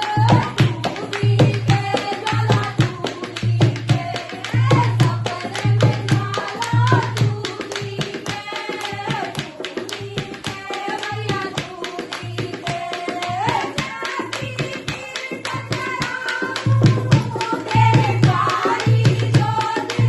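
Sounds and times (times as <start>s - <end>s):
hand drum beating: 0.0s - 20.0s.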